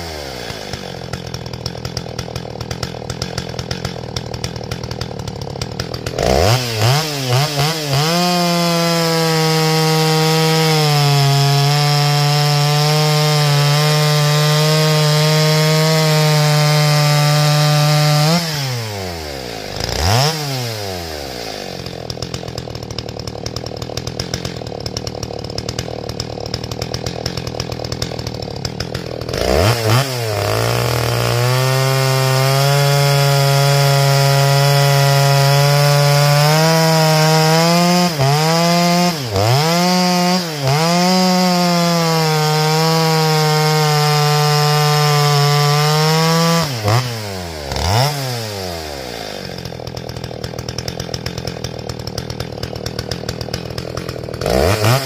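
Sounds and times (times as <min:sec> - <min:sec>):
chainsaw revving and cutting log: 0:00.0 - 0:55.0.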